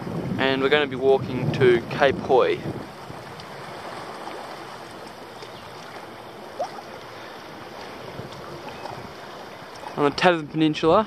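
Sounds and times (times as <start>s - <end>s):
light wind rushing: 0.0s - 11.0s
small waves lapping: 1.6s - 11.0s.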